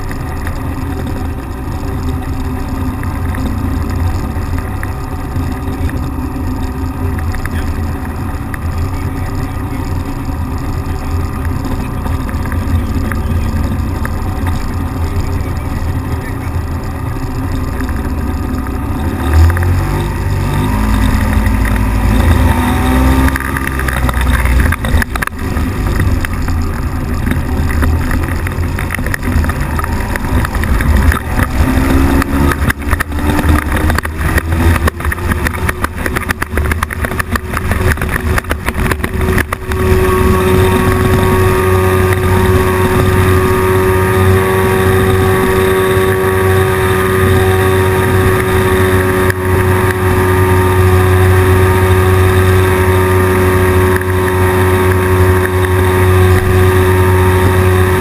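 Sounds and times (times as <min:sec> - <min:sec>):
propeller engine revving: 0:00.0 - 0:58.0
wind noise on microphone: 0:00.0 - 0:58.0.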